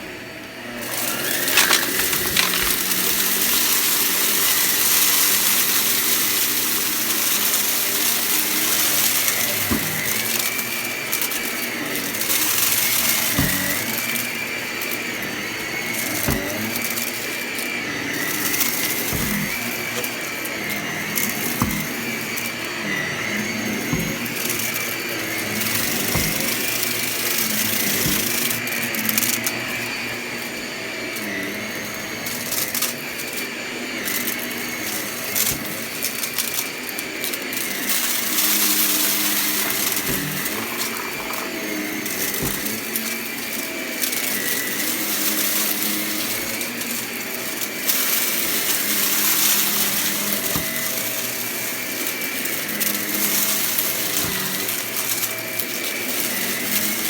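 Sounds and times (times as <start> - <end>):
vacuum cleaner running: 0.0 - 57.0
debris clicking in vacuum: 0.8 - 30.6, 34.1 - 57.0.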